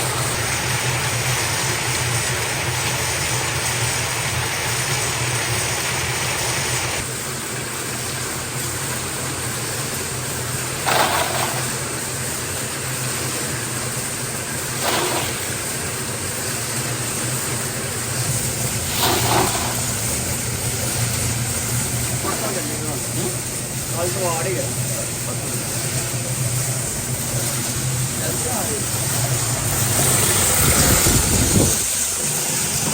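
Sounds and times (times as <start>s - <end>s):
workshop machinery humming: 0.0s - 32.9s.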